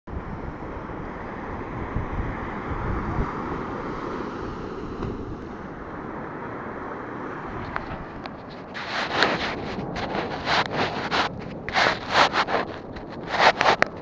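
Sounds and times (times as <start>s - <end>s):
sea waves washing ashore: 0.1s - 14.0s
wind buffeting microphone: 0.1s - 14.0s.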